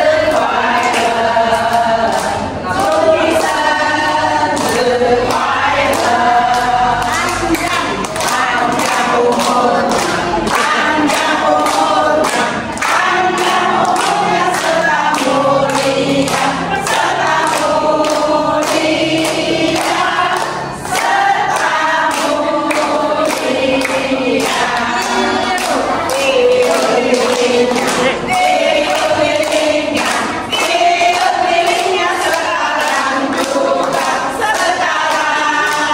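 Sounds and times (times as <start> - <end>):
women singing together: 0.0 - 35.9
hands clapping in time: 0.2 - 35.9.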